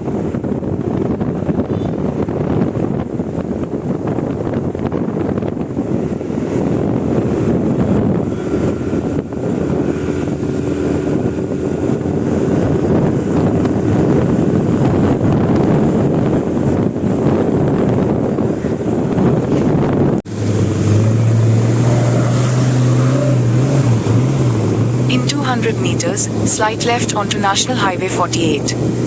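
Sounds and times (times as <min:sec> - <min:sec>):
wind rushing on microphone: 0:00.0 - 0:25.1
vehicle road noise: 0:00.0 - 0:29.0
faint engine hum: 0:04.4 - 0:29.0.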